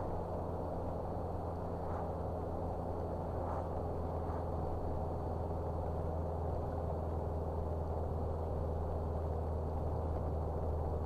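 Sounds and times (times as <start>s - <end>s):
in-cab engine drone: 0.0s - 11.0s
road noise: 0.0s - 11.0s.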